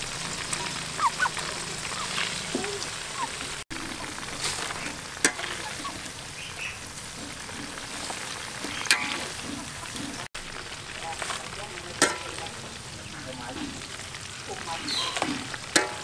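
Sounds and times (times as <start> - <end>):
deep-frying sizzle: 0.0 - 16.0.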